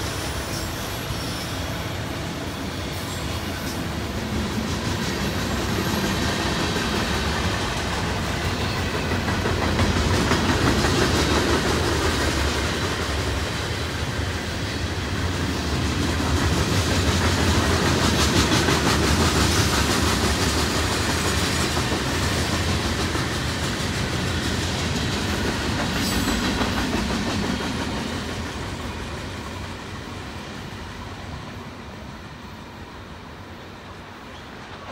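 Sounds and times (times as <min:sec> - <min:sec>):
train wheels rolling on rail: 0:00.0 - 0:34.9.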